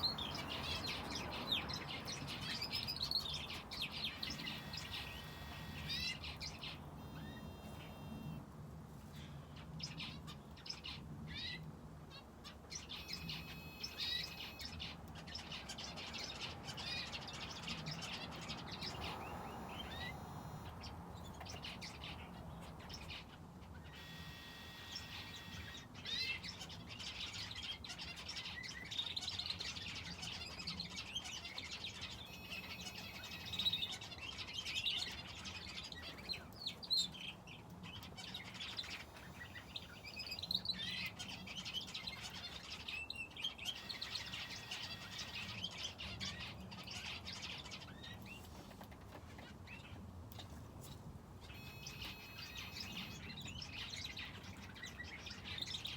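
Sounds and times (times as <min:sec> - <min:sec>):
finches and canary chirping: 0:00.0 - 0:08.4, 0:09.1 - 0:48.7, 0:49.3 - 0:50.1, 0:50.8 - 0:55.9.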